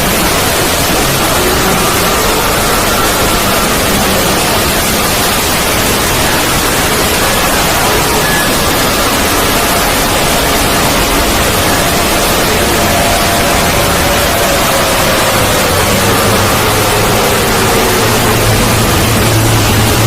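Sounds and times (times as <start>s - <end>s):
static-like noise: 0.0s - 20.0s.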